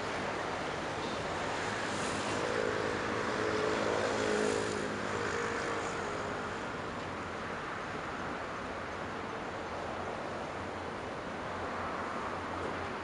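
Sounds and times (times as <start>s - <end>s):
wind and water rushing: 0.0s - 13.0s.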